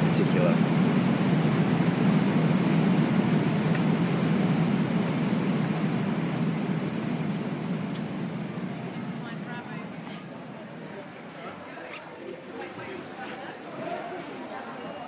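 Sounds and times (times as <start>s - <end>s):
jet airliner cabin hum: 0.0s - 14.9s.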